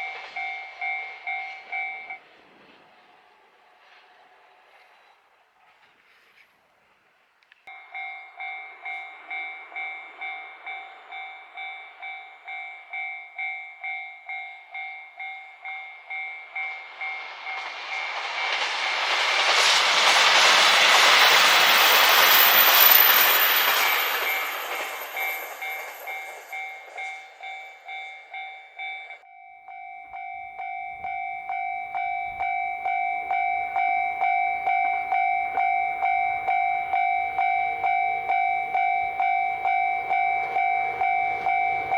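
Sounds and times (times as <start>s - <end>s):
crossing warning bell clanging: 0.0s - 2.3s, 7.7s - 18.6s, 20.8s - 41.9s
train wheels rushing past: 0.0s - 6.6s, 7.7s - 29.2s, 32.4s - 41.9s.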